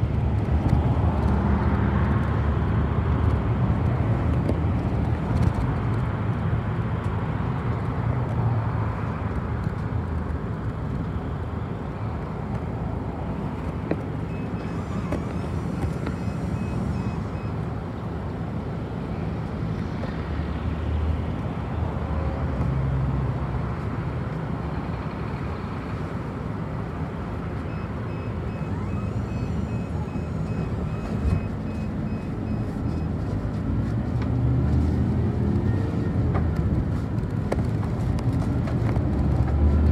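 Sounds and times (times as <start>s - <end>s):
road traffic rumbling: 0.0s - 39.9s.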